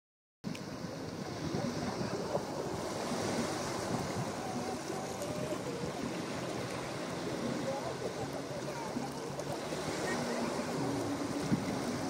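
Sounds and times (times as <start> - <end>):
waves breaking on rocks: 0.6 - 12.0.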